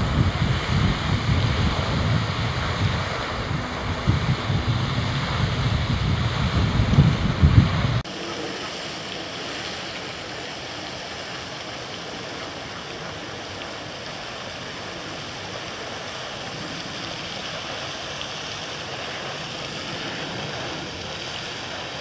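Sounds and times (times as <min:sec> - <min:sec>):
splashing water hiss: 0:00.0 - 0:22.0.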